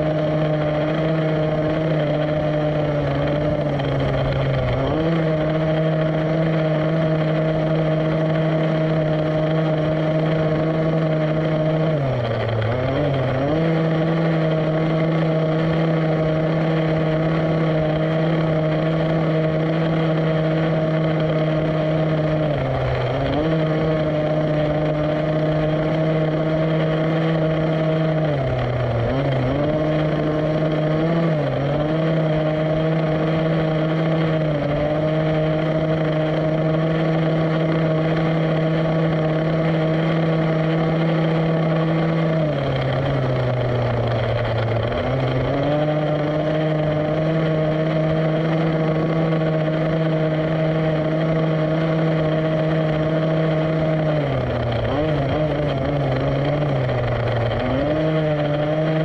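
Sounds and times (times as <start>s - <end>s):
small two-stroke engine running: 0.0s - 59.0s.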